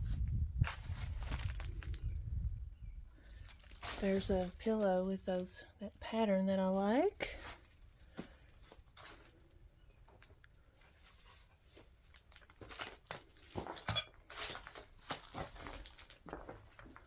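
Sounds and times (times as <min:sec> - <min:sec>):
rustling and crunching on debris: 0:00.0 - 0:02.2, 0:03.1 - 0:06.1, 0:07.2 - 0:17.0.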